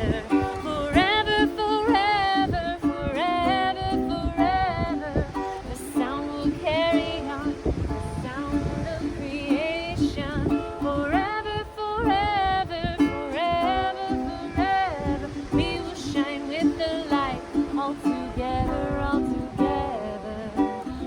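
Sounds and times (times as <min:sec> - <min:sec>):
strummed ukulele: 0:00.0 - 0:21.0
woman singing: 0:00.0 - 0:21.0.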